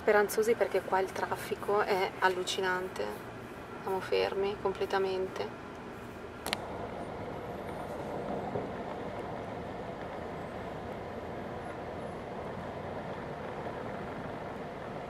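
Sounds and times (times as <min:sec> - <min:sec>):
city traffic and engine noise: 0:00.0 - 0:15.0.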